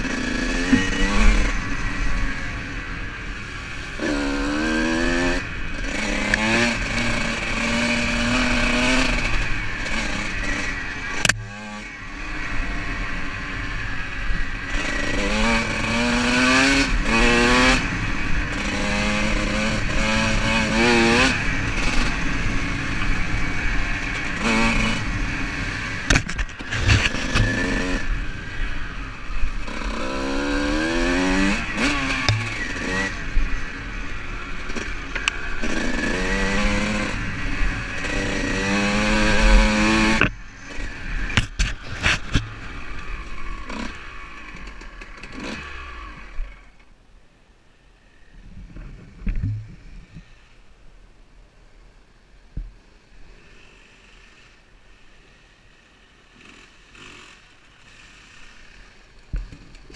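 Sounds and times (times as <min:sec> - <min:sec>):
dirt bike engine revving: 0:00.0 - 0:46.8, 0:53.3 - 0:59.9.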